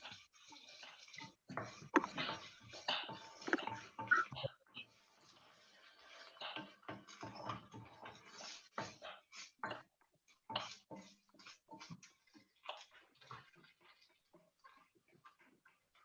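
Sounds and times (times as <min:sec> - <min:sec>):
spoon stirring and scraping: 0:00.0 - 0:16.0.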